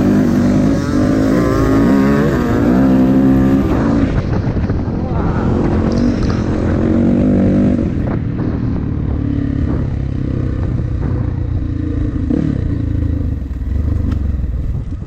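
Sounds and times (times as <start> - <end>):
dirt bike engine revving: 0.0 - 14.6.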